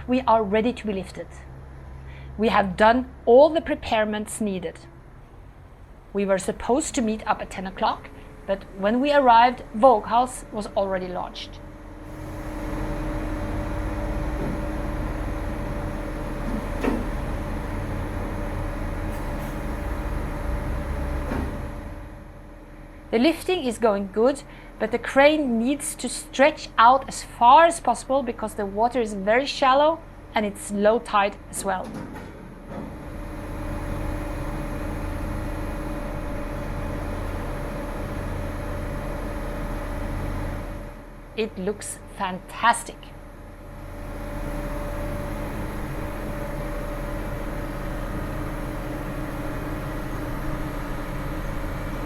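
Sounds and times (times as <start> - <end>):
crane diesel engine running: 0.0 - 31.9, 32.5 - 52.0.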